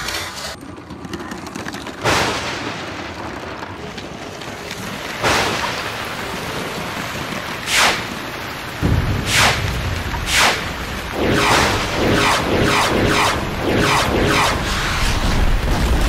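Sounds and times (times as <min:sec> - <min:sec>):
rushing rain-like storm noise: 0:01.5 - 0:16.0.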